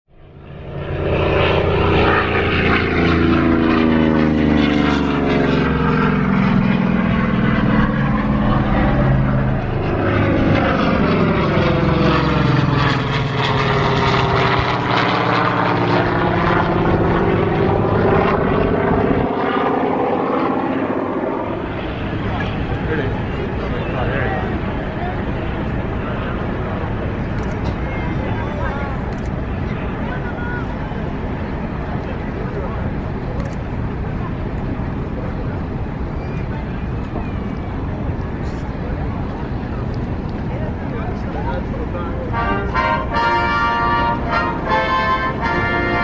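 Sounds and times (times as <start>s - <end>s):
aircraft engine drone: 0.1s - 46.0s
aircraft whoosh: 0.1s - 46.0s.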